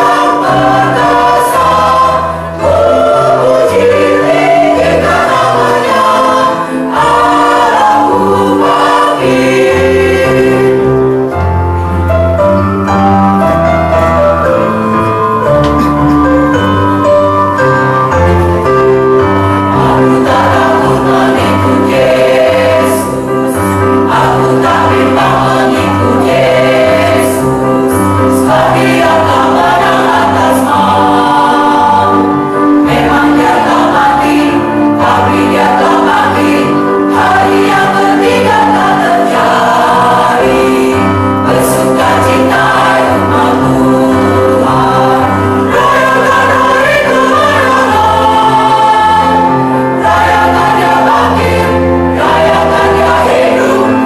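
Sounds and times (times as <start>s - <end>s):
choir singing: 0.0s - 11.6s, 15.6s - 54.0s.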